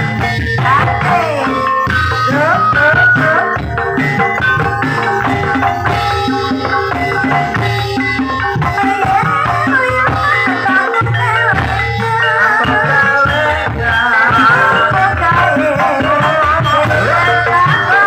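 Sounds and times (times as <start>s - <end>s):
drums: 0.0s - 18.0s
gamelan metallophones: 0.0s - 18.0s
wavering melodic line: 0.0s - 18.0s.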